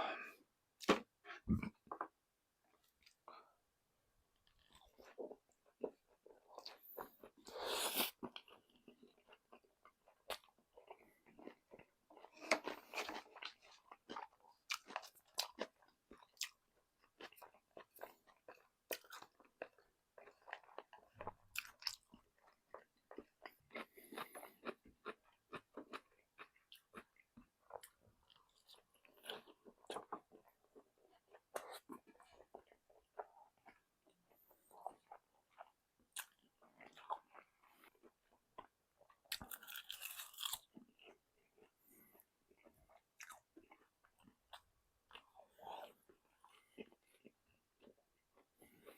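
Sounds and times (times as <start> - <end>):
chewing crispy fried chicken: 4.3 - 48.9.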